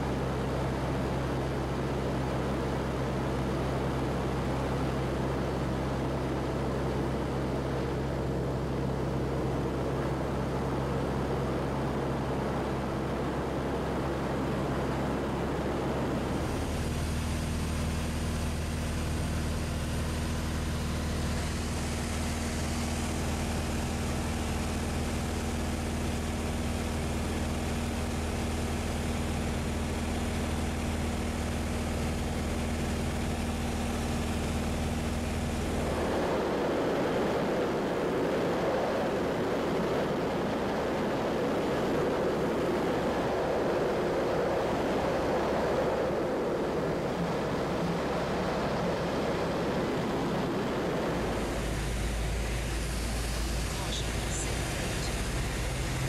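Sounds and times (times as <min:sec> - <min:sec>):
propeller aircraft engine droning: 0:00.0 - 0:56.0.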